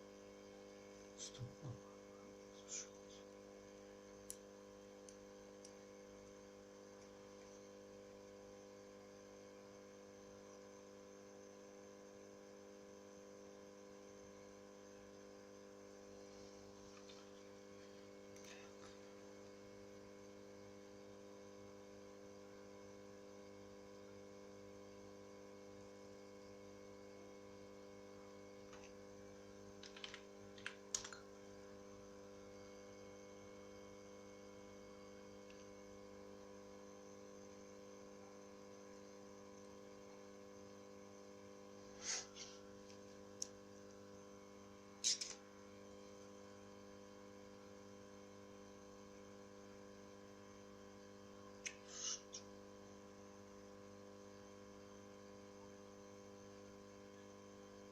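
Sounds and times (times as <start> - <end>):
electrical hum: 0.0 - 57.9.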